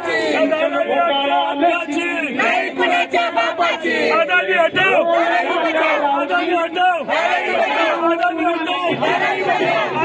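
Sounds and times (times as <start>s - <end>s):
crowd shouting slogans: 0.0s - 10.0s.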